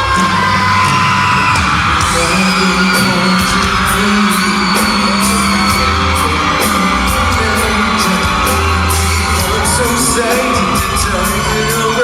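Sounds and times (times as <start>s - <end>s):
live pop band over pa: 0.0s - 12.0s
steady drum beat: 0.0s - 12.0s.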